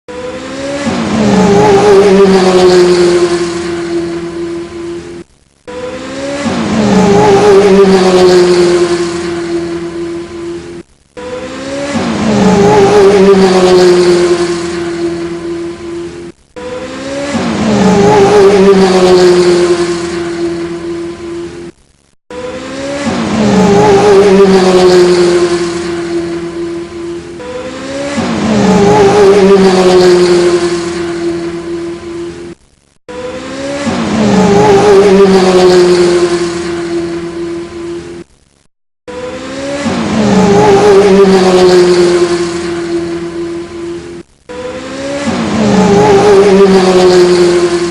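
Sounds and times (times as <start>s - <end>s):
car engine note: 0.1s - 38.3s, 39.1s - 47.9s.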